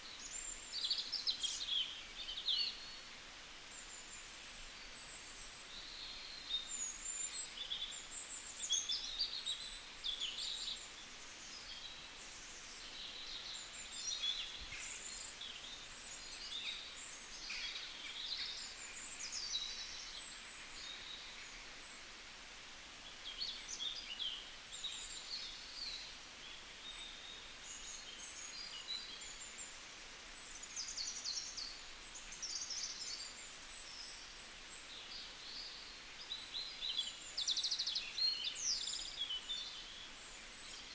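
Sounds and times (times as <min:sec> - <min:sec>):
small birds chirping: 0:00.0 - 0:22.1, 0:23.0 - 0:40.9
background hiss: 0:00.0 - 0:40.9.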